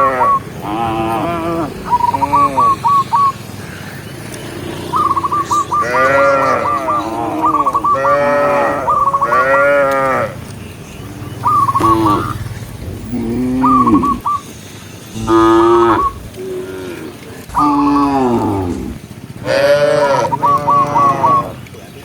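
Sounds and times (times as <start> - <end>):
cattle mooing: 0.0 - 3.3, 4.1 - 10.5, 11.7 - 14.4, 15.1 - 21.7
high chirping notes: 0.0 - 16.6, 17.4 - 21.6.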